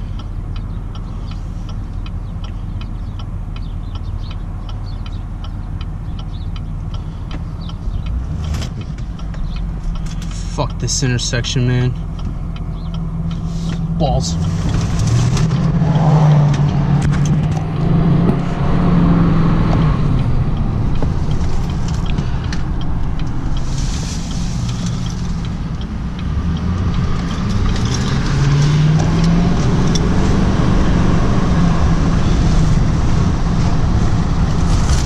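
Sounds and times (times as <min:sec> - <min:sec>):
diesel engine accelerating: 0:00.0 - 0:35.0.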